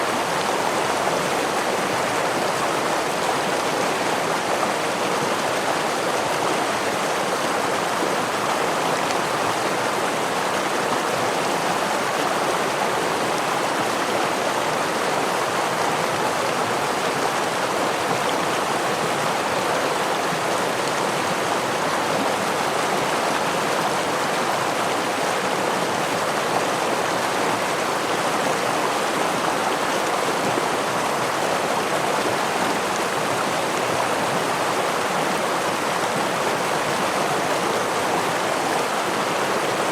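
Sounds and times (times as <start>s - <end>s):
stream water rushing and splashing: 0.0s - 39.9s.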